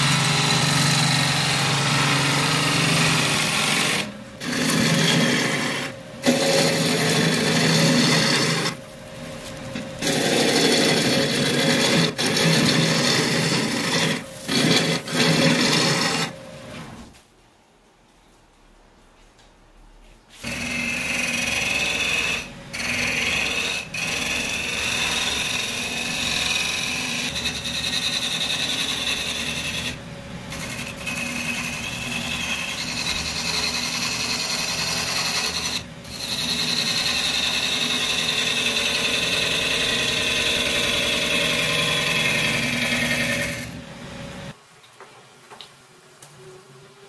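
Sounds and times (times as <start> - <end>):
lathe gouge cutting wood: 0.0 - 8.8, 9.4 - 16.4, 20.4 - 43.8.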